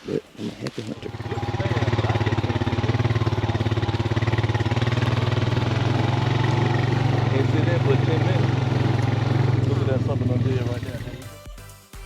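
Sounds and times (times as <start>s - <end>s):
engine idling: 1.0s - 11.2s.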